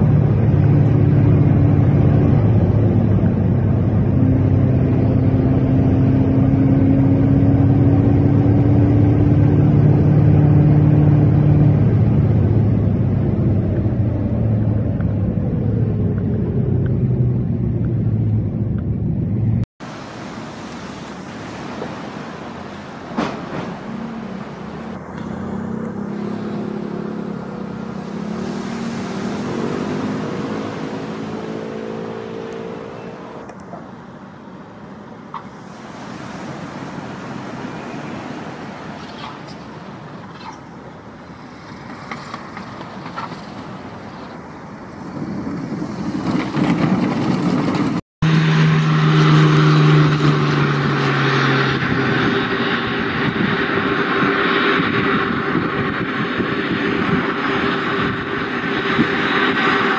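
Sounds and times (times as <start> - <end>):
propeller plane engine: 0.0 - 33.8, 35.3 - 59.9
turboprop plane engine: 0.0 - 33.8, 35.6 - 59.9
broad rushing noise: 0.0 - 59.9.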